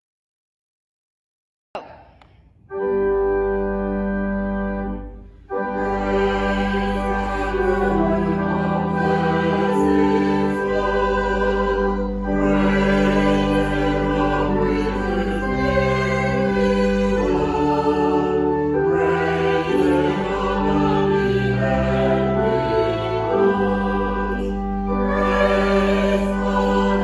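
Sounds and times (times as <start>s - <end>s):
slow church music chords: 1.8s - 27.0s.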